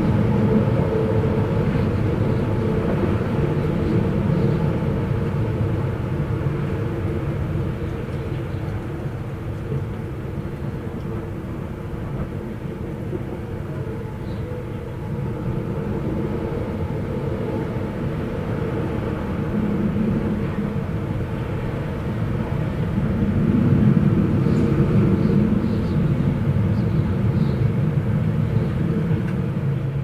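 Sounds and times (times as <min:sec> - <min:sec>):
wind blowing: 0:00.0 - 0:30.0.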